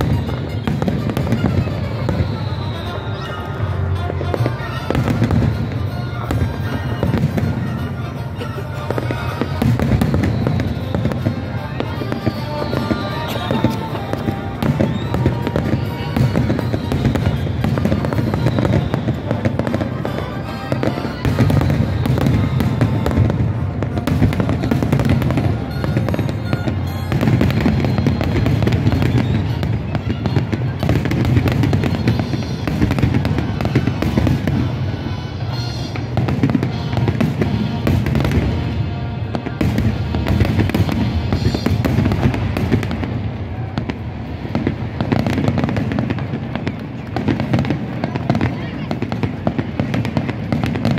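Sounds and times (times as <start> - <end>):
fireworks booming and crackling: 0.0 - 50.9
fireworks falling whistles: 0.0 - 50.9.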